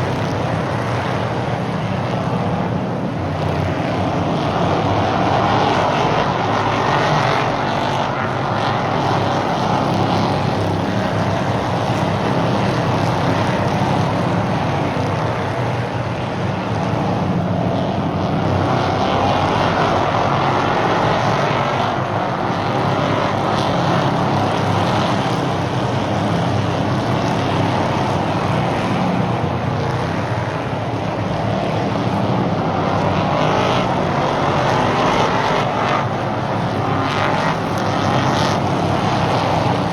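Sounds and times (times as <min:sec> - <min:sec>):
race car engines on track: 0:00.0 - 0:39.9.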